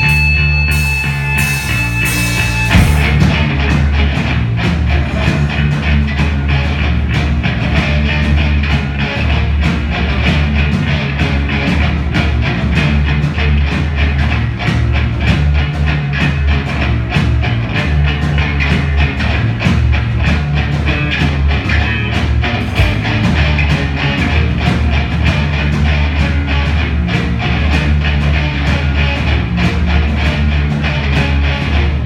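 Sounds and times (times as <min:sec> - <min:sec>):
drum kit beat: 0:00.0 - 0:32.0
electric guitar: 0:00.0 - 0:32.0.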